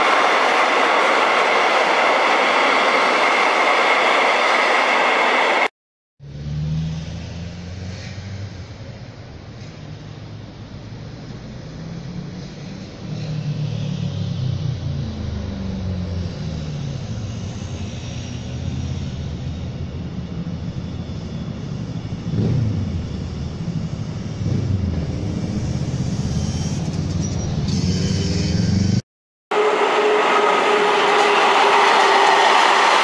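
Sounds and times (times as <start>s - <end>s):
train rumbling past: 0.0s - 5.7s, 6.3s - 33.0s.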